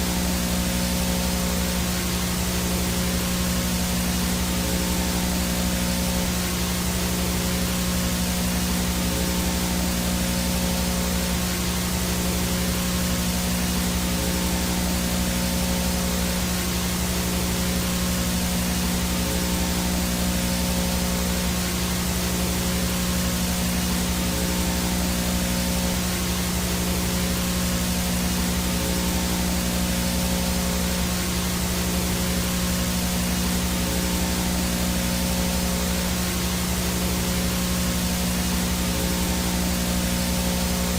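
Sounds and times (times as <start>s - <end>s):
low buzzing hum: 0.0s - 40.9s
static hiss: 0.0s - 40.9s.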